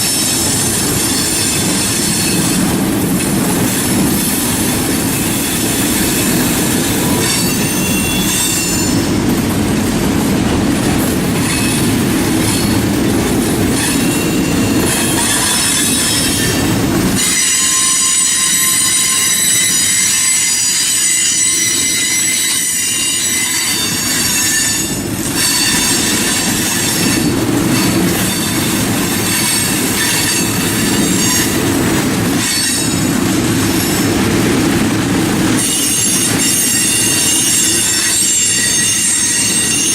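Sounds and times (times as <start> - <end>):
train wheels squealing: 0.0 - 2.8, 3.7 - 9.2, 11.4 - 12.9, 13.7 - 31.7, 32.3 - 33.2, 35.6 - 39.9
rumble of wheels on rail: 0.0 - 39.9.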